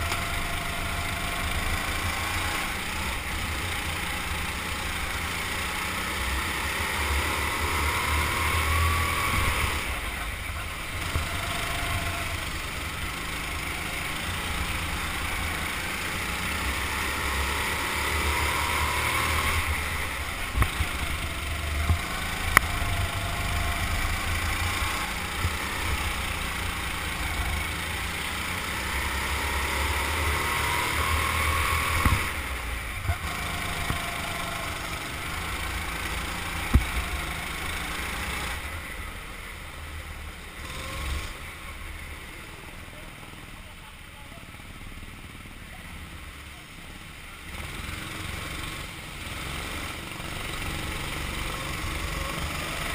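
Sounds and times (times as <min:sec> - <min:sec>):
go-kart engine running: 0:00.0 - 0:52.9.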